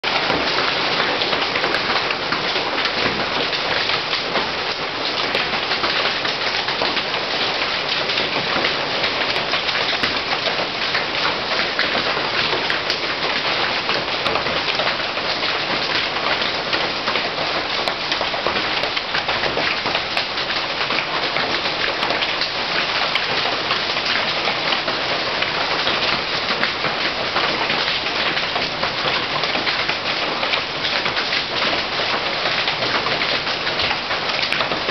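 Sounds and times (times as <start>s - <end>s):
hail and rain on paving: 0.0s - 34.9s.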